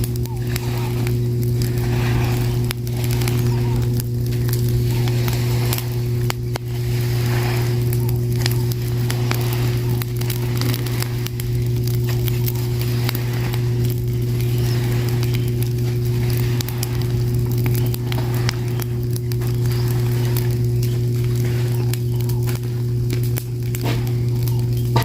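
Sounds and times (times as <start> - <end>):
fire crackling and popping: 0.0 - 25.0
loud steady low hum: 0.0 - 25.0.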